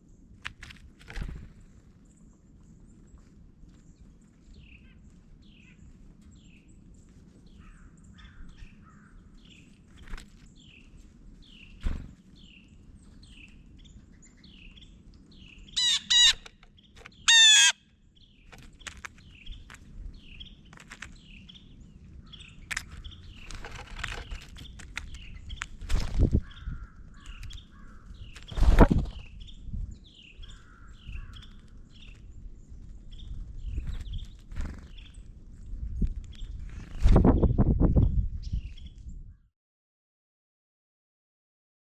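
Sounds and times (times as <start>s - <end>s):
songbirds chip notes: 0.0s - 39.4s.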